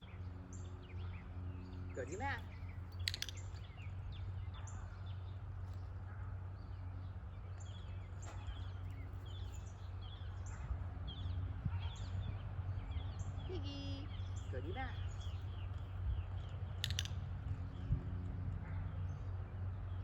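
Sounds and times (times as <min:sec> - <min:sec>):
low background hum: 0:00.0 - 0:20.0
small birds chirping: 0:00.0 - 0:20.0.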